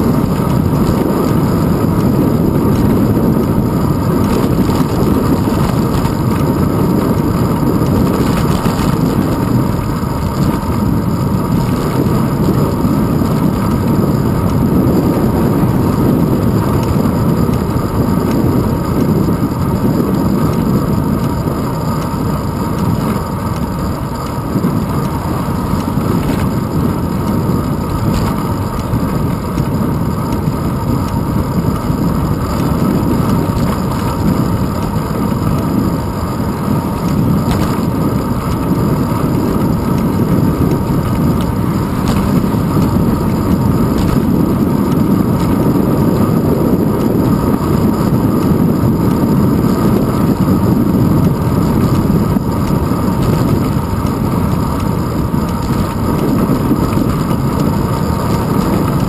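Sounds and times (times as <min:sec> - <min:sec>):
wind rumble: 0:00.0 - 0:59.0.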